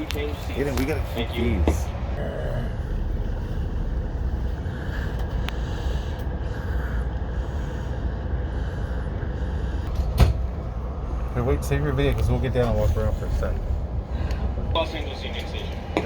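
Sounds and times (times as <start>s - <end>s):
train car rumble and hum: 0.0s - 16.0s.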